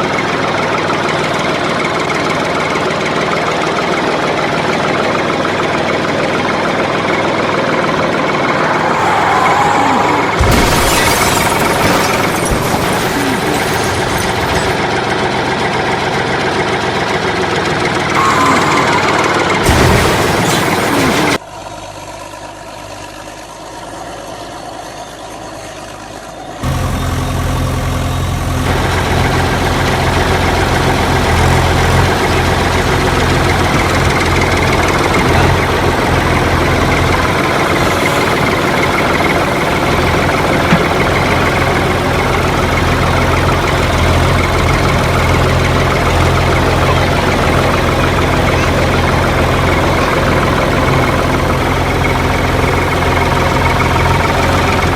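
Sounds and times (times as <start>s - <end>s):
tractor engine idling: 0.0s - 10.6s, 13.2s - 54.9s.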